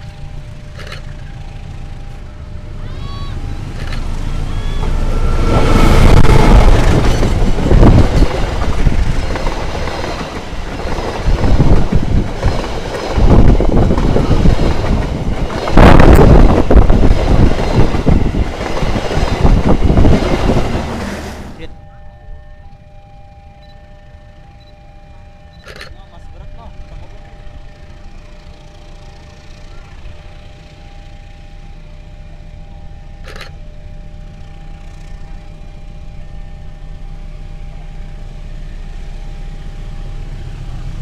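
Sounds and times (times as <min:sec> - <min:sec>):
passenger train passing at speed: 0:00.0 - 0:41.0.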